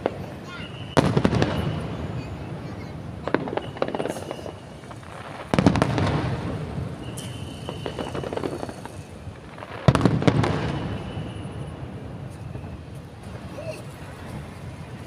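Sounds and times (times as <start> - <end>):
aerial fireworks bursts: 0.0 - 15.0
small firework crackles: 0.0 - 15.0.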